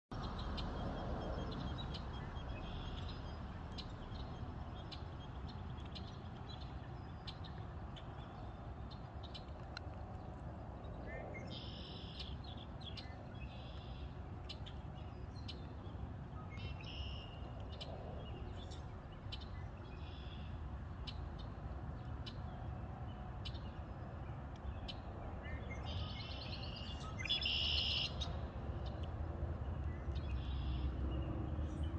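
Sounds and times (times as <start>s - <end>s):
steady low rumble: 0.1s - 27.4s, 28.0s - 31.9s
songbirds singing and chirping: 0.1s - 31.9s.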